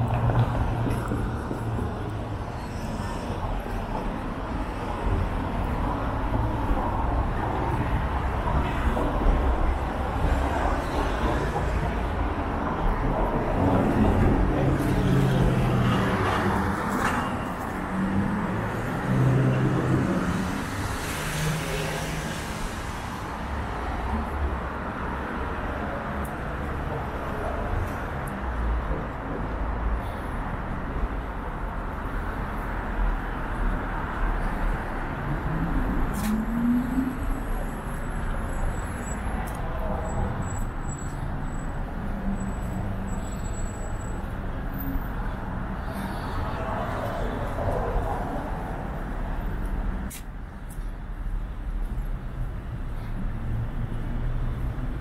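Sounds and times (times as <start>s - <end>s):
cars driving by: 0.0s - 55.0s.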